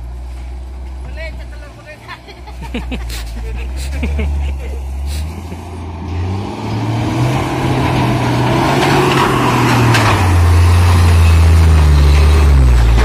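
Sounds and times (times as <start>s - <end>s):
truck diesel engine under load: 0.0s - 13.0s.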